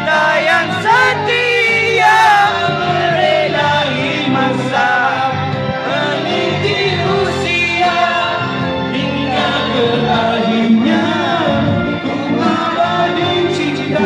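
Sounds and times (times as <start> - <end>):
instrumental accompaniment: 0.0 - 14.0
person singing: 0.0 - 14.0.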